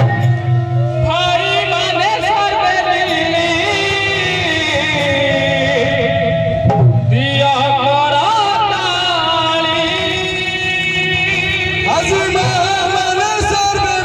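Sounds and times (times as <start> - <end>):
held instrumental drone tones: 0.0 - 14.0.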